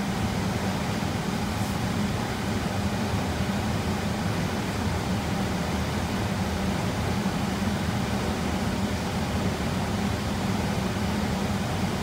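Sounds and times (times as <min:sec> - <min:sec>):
electric furnace blower fan humming: 0:00.0 - 0:12.0.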